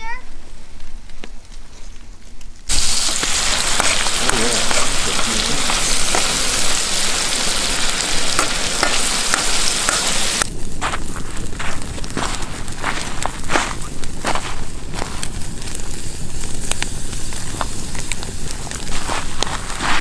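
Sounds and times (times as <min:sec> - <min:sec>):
quiet crackling: 0:00.7 - 0:20.0
vegetables sizzling in oil: 0:02.7 - 0:10.9, 0:11.5 - 0:20.0.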